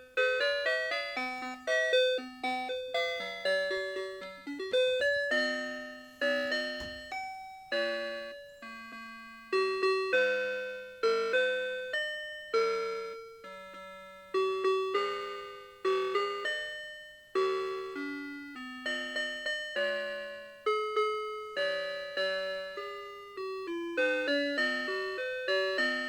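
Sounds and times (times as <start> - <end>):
alarm clock chiming melody: 0.0 - 26.0.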